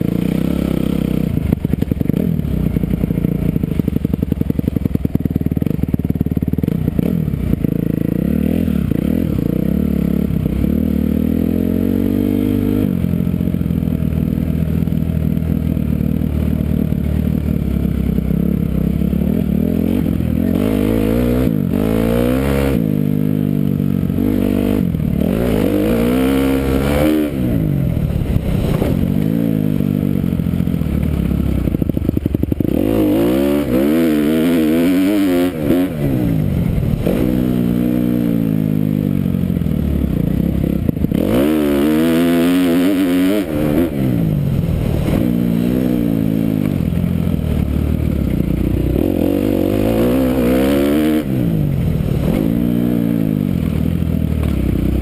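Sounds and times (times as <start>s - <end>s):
dirt bike engine revving: 0.0s - 13.6s, 14.2s - 55.0s.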